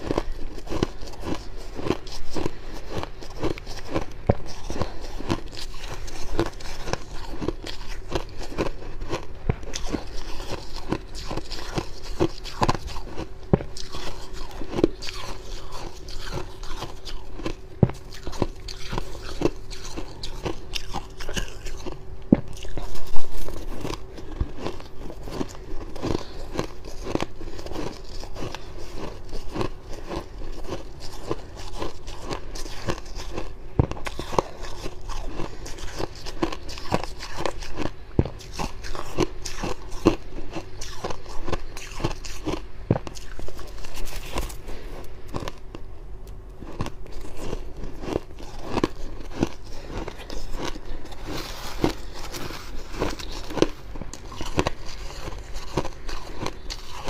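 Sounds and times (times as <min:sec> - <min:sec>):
chewing crunchy frost: 0:00.0 - 0:57.0.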